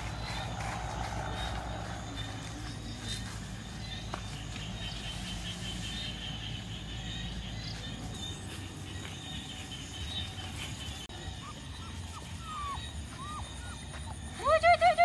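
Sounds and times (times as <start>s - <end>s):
faint high chirping: 1.4s - 14.5s.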